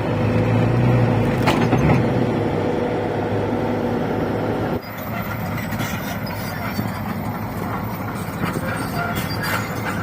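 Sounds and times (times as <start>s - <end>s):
engine running low hum: 0.0s - 10.0s.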